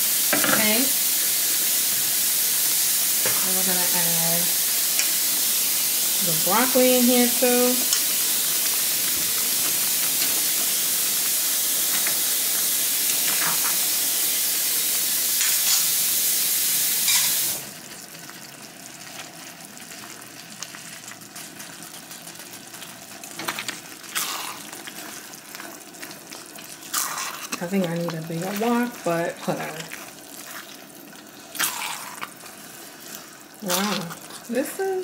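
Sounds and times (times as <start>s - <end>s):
food sizzling in a wok: 0.0s - 35.0s.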